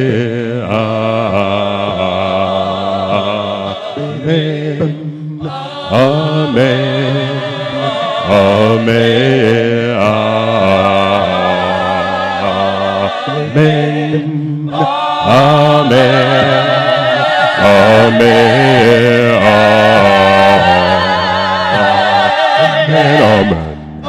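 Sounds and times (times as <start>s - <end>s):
vocal group singing harmonies: 0.0s - 24.0s.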